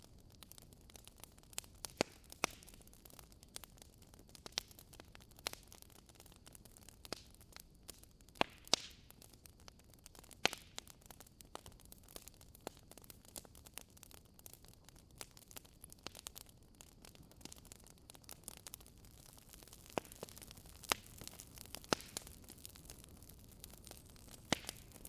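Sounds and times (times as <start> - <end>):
logs crackling in a fireplace: 0.0 - 25.0.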